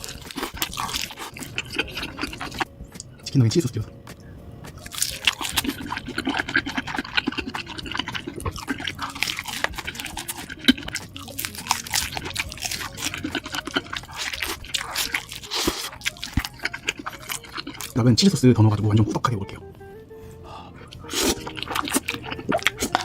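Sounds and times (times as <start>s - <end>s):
crunching and wet chewing: 0.0s - 3.4s, 4.0s - 19.4s, 20.8s - 23.0s.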